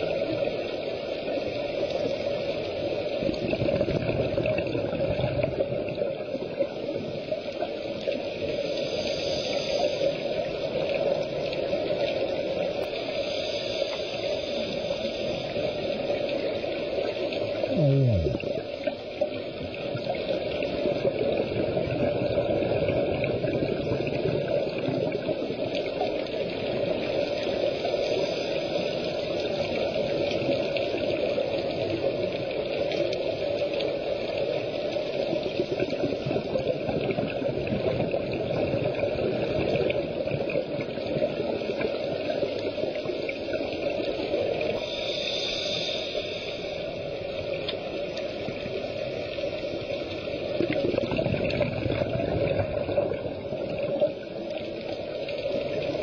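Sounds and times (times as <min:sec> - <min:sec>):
underwater water noise: 0:00.0 - 0:56.0
scuba bubbles rising: 0:01.3 - 0:07.2, 0:15.3 - 0:27.8, 0:29.2 - 0:56.0.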